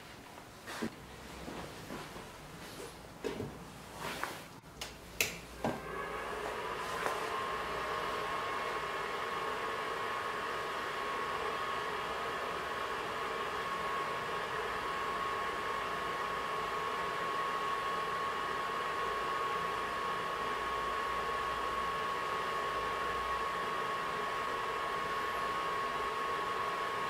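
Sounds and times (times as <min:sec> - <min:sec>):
cooling fan whirring: 0:00.0 - 0:27.0.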